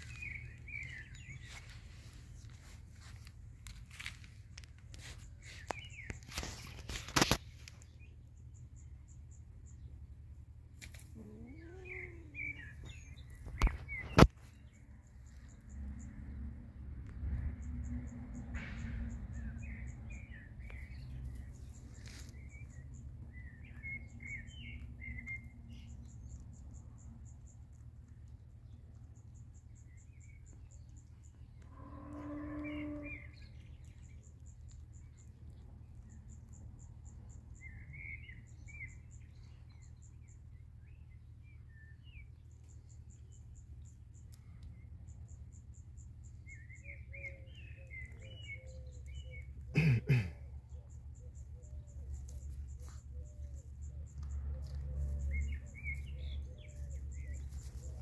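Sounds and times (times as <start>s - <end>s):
birds chirping: 0.0s - 16.5s, 17.6s - 58.0s.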